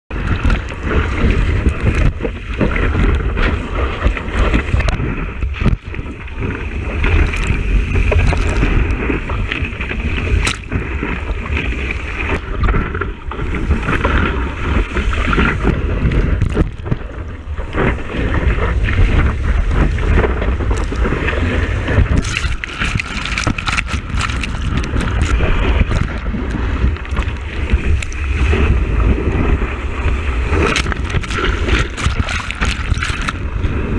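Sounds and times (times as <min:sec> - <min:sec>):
rushing water: 0:00.1 - 0:33.9
wind buffeting camera: 0:00.1 - 0:33.9.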